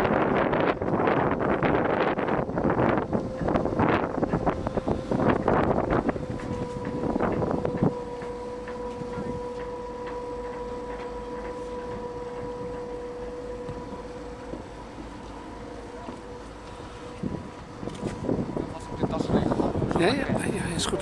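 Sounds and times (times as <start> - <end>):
ship engine hum: 0.0 - 21.0
wind buffeting microphone: 0.0 - 21.0.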